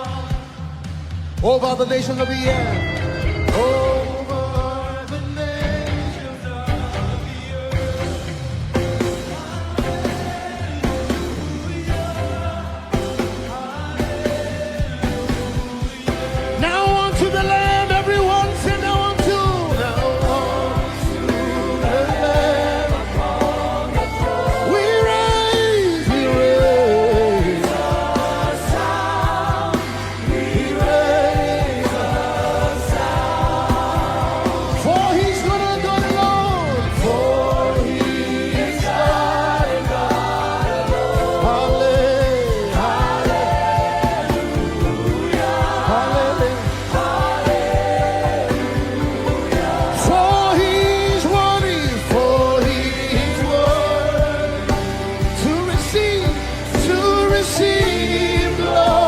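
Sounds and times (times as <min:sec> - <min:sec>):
choir singing gospel song: 0:00.0 - 0:59.0
live band accompaniment: 0:00.0 - 0:59.0
bass line: 0:02.3 - 0:59.0
drum hits: 0:07.8 - 0:59.0.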